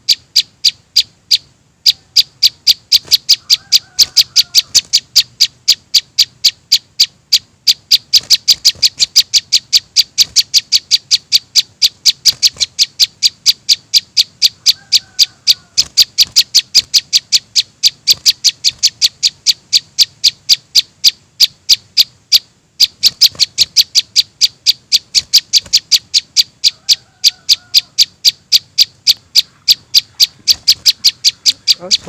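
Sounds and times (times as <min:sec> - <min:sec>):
faint lower bird call: 0:00.0 - 0:32.0
sharp high bird chirps: 0:00.0 - 0:32.0.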